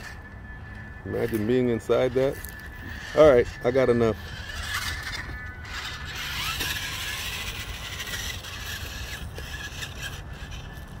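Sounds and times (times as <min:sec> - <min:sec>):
toy truck motor whine: 0:00.0 - 0:11.0.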